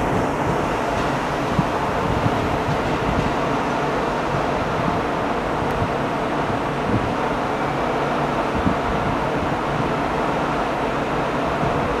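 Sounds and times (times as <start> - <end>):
electric train rumble and hiss: 0.0 - 12.0
station background noise: 0.0 - 12.0.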